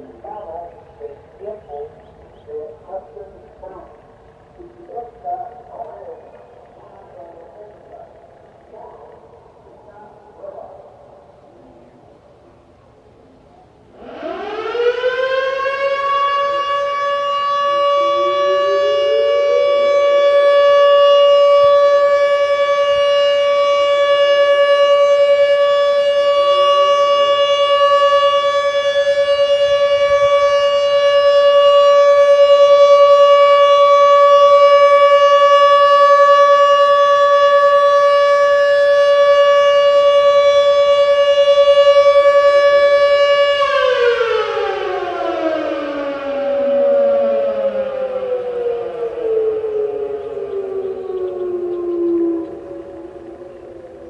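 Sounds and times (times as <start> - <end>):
distant rising sirens: 0.0 - 54.0
outdoor warning siren: 0.0 - 54.0.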